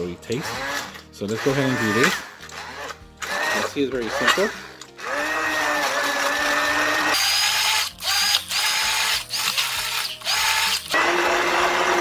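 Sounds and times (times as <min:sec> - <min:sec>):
hand blender motor whirring: 0:00.3 - 0:12.0.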